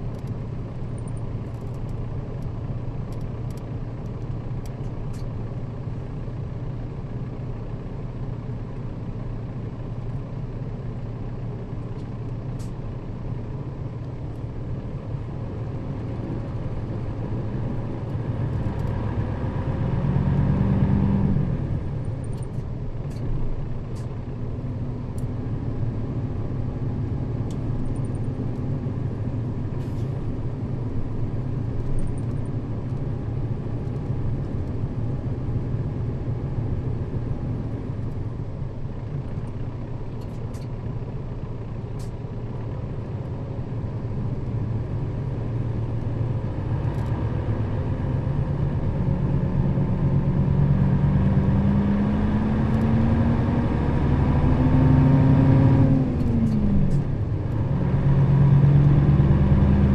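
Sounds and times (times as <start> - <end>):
bus diesel engine drone: 0.0 - 59.9
road noise: 11.8 - 59.9.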